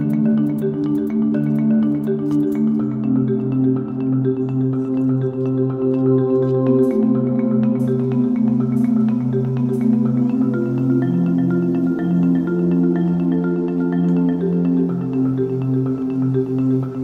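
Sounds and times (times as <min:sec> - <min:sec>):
light melody of struck notes: 0:00.0 - 0:17.0.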